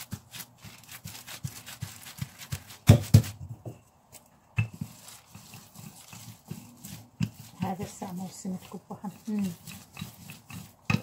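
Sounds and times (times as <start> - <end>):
plastic sheet rustling: 0.0 - 3.4, 4.8 - 10.9.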